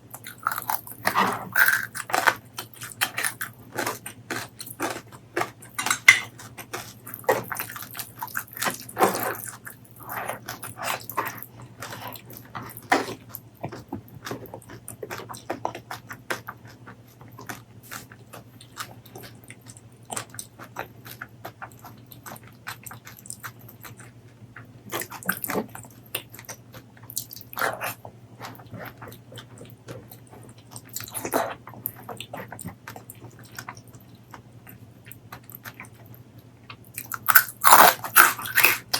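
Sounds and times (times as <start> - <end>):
wet chewing and lip-smacking: 0.1 - 38.9.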